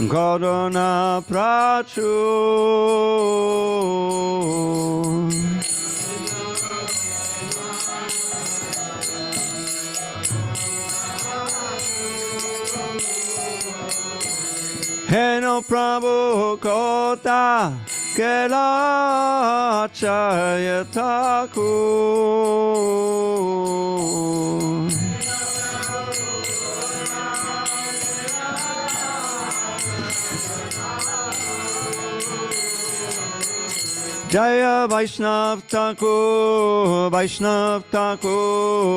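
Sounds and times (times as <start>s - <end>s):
devotional song singing: 0.0s - 38.9s
hand cymbals clinking: 0.0s - 38.9s
metallic jingling beat: 0.0s - 38.9s.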